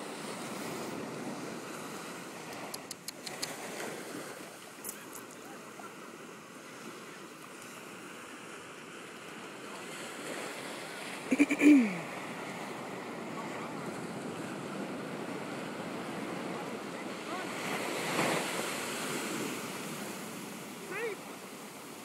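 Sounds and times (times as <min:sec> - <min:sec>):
ocean surf: 0:00.0 - 0:22.0.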